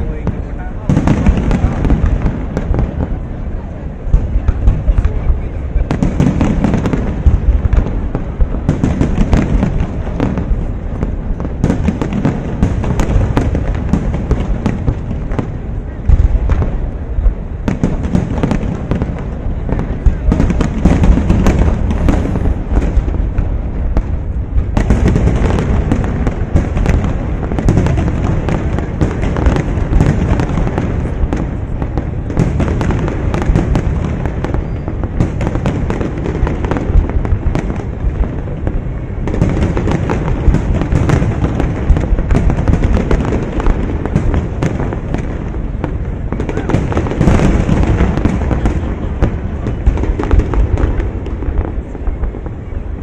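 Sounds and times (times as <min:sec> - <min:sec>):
fireworks bangs and booms: 0:00.0 - 0:53.0.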